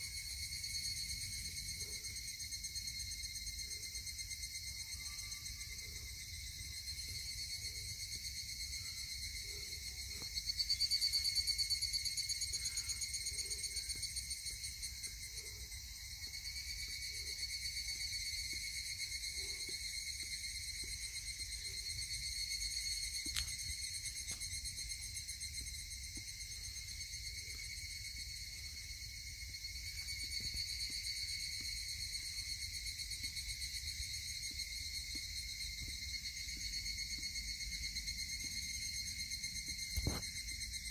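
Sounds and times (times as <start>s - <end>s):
cicadas buzzing: 4.3s - 40.9s.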